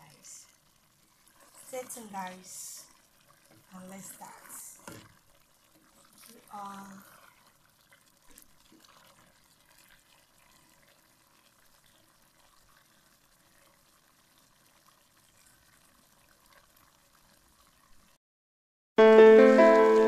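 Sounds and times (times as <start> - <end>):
stew bubbling in a pot: 0.0 - 18.2.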